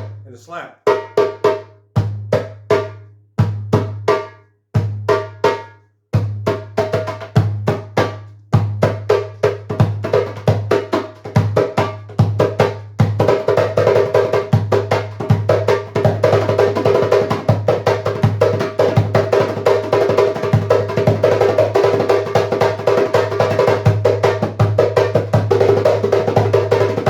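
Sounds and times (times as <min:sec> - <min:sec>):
djembe played by hand: 0:00.8 - 0:27.0.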